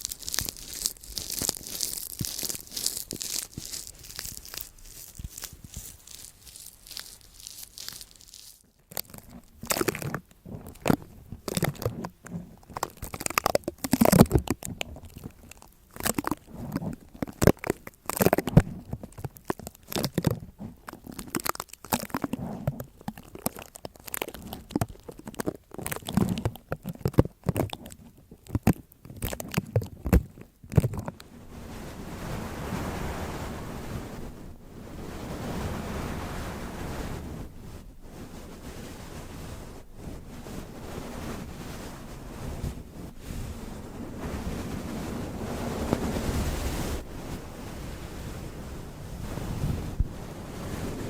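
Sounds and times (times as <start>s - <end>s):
close crunching and crinkling: 0.0s - 51.0s.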